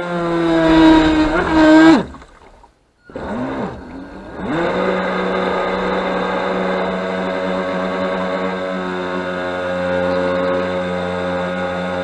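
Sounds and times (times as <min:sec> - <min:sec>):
rc boat electric motor whining: 0:00.0 - 0:02.1, 0:03.1 - 0:12.0.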